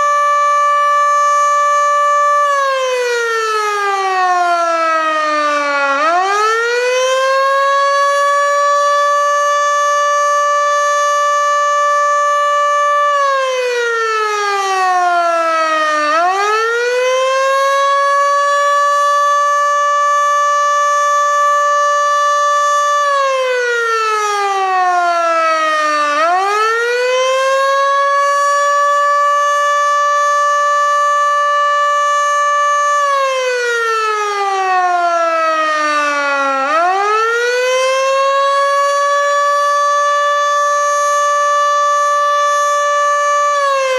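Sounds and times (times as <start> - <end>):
electromechanical warning siren wailing: 0.0 - 43.9.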